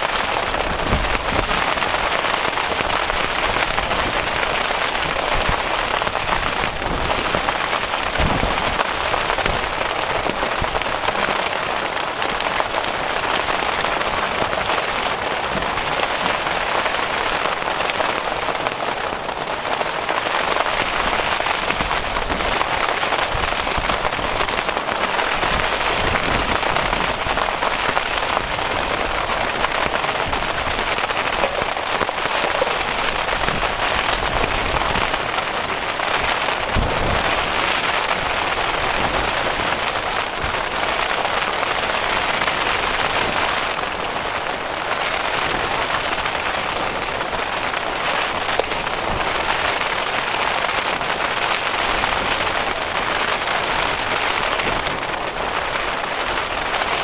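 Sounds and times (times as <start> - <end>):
dense rain pattering: 0.0 - 57.0.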